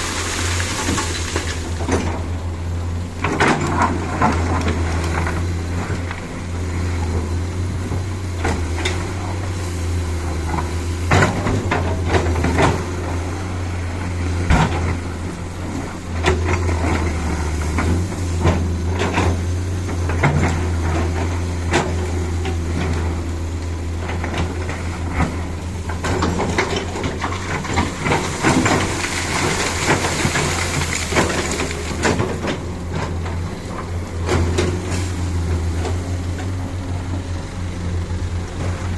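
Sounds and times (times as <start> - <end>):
diesel truck engine droning: 0.0 - 38.9.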